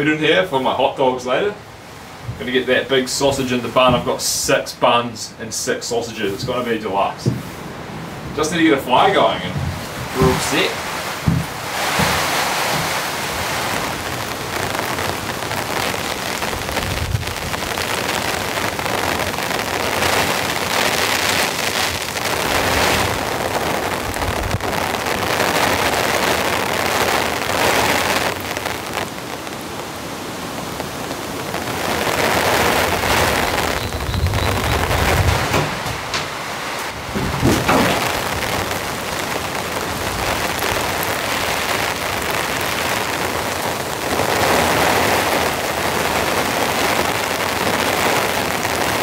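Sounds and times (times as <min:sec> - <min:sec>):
heavy rain on a tin roof: 0:00.0 - 0:04.7, 0:06.0 - 0:49.0.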